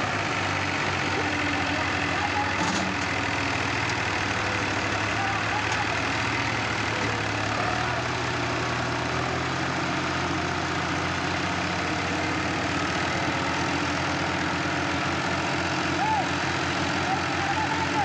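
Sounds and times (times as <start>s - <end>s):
tractor engines straining under load: 0.0s - 18.0s.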